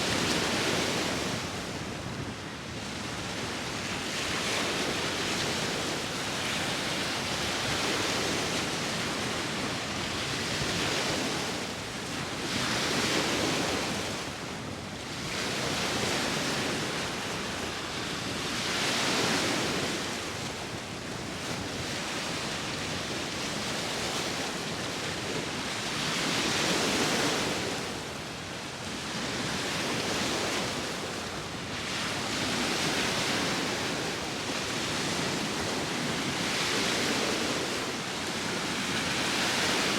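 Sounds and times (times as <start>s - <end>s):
sea waves washing ashore: 0.0s - 39.9s
wind: 0.0s - 39.9s.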